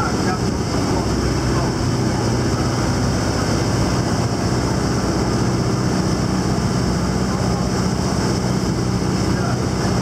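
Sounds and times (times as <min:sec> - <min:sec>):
road rumble: 0:00.0 - 0:10.0.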